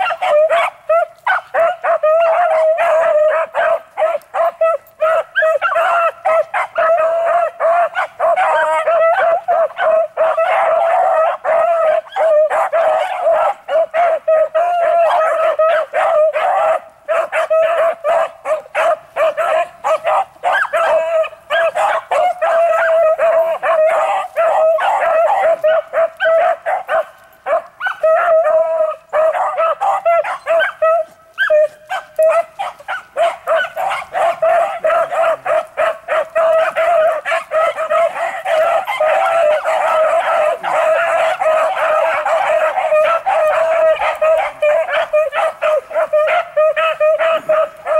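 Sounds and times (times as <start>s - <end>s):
dogs baying and yelping: 0.0s - 47.9s.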